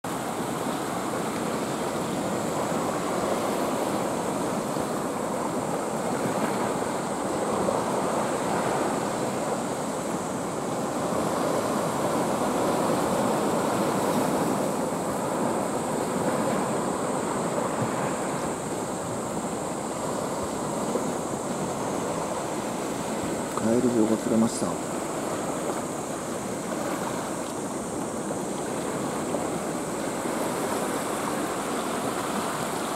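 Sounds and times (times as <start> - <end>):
sea water washing over rocks: 0.1 - 32.9.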